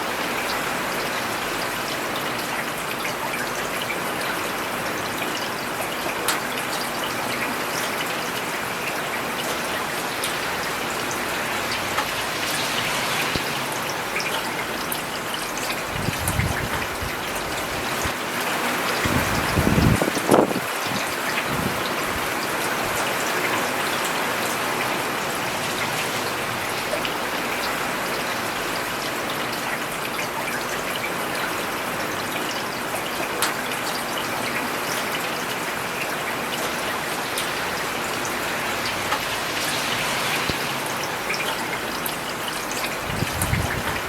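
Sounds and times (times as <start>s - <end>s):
rain on a paved road: 0.0s - 44.0s.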